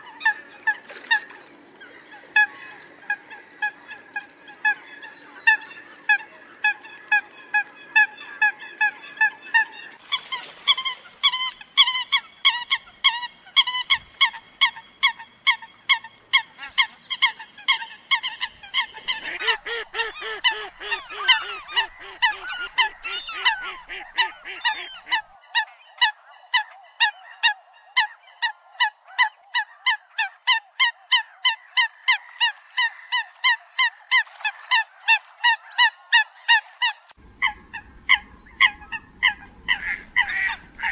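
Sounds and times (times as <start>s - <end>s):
lower-pitched bird calls: 1.9s - 40.9s.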